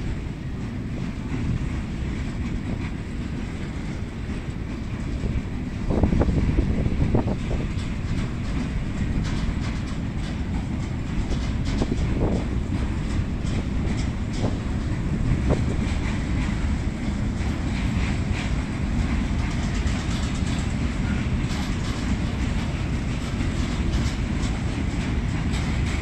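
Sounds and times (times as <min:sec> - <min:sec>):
freight train wagons rumbling: 0:00.0 - 0:26.0
wheels clacking over rail joints: 0:00.0 - 0:26.0.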